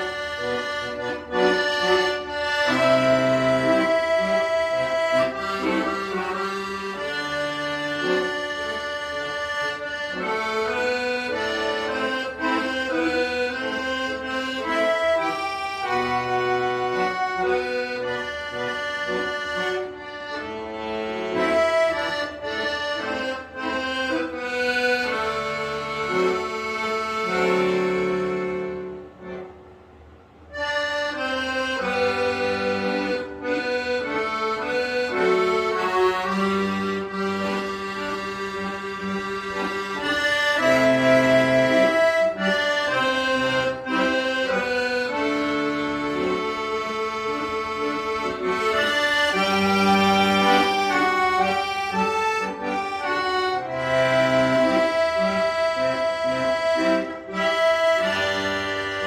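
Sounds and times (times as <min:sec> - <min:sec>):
accordion playing a melody: 0:00.0 - 0:59.0.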